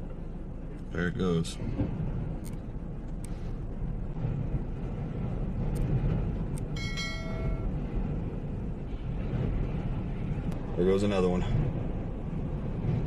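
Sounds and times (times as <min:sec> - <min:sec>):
strong wind on microphone: 0:01.6 - 0:13.0.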